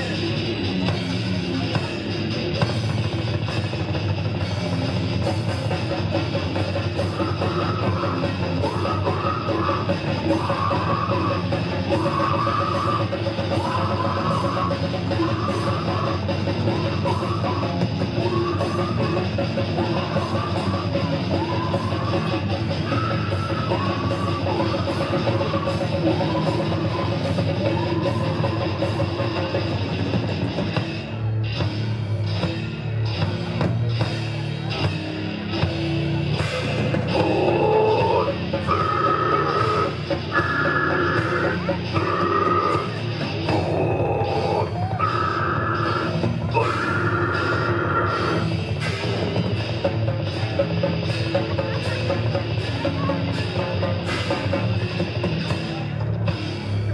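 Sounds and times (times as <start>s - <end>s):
death metal band playing: 0.0s - 56.9s.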